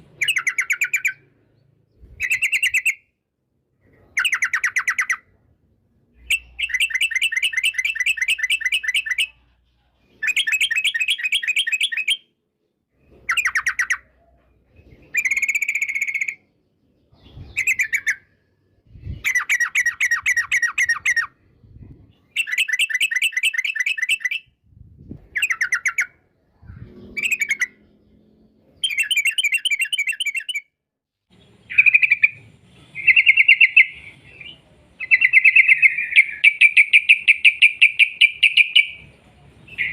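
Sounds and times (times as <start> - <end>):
bird singing rapid repeated notes: 0.0 - 3.2, 3.8 - 39.9.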